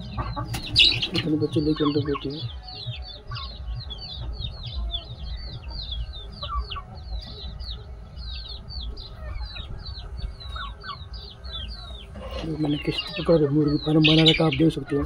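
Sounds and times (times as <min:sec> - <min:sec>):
chicks peeping: 0:00.0 - 0:15.0
lower chick calls: 0:00.0 - 0:15.0.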